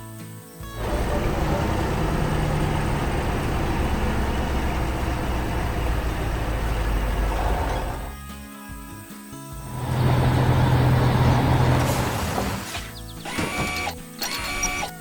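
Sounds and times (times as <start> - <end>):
vehicle engine rumble: 0.6 - 8.1, 9.7 - 14.8.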